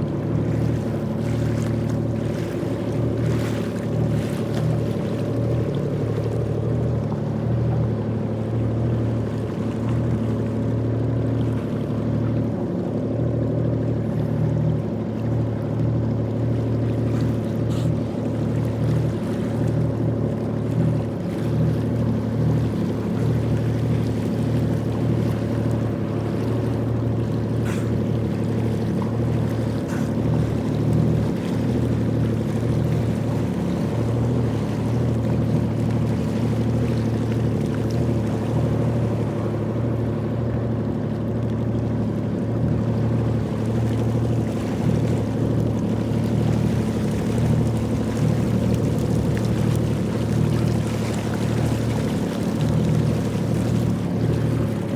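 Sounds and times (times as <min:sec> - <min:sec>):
jet ski engine droning: 0:00.0 - 0:54.9.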